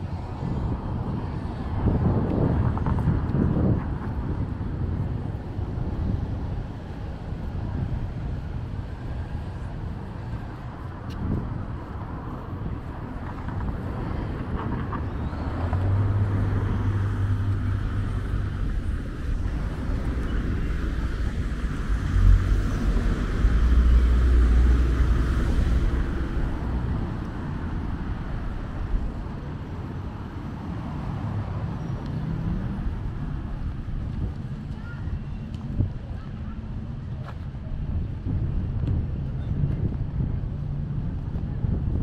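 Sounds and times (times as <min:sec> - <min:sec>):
deep vehicle passing: 0:00.0 - 0:36.0
highway traffic rushing: 0:00.0 - 0:42.0.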